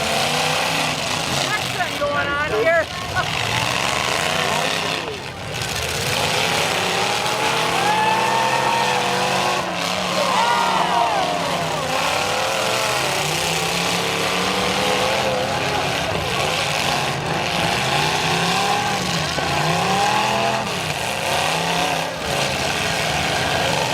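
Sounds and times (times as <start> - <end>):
engines revving: 0.0 - 23.9.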